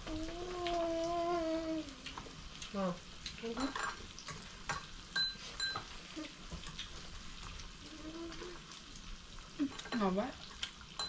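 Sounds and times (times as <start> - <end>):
meat sizzling: 0.0 - 11.0.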